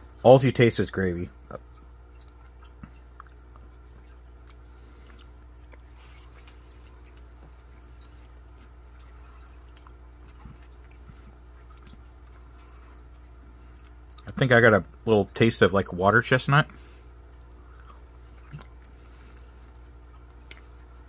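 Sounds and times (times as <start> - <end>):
steady low hum: 0.0 - 21.0
chewing: 1.5 - 14.4, 16.7 - 21.0.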